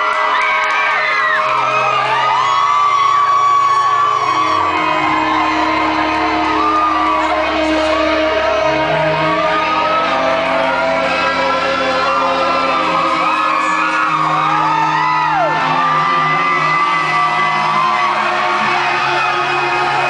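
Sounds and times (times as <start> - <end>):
audience whooping and shouting: 0.0 - 20.0
live band playing loudly: 0.0 - 20.0.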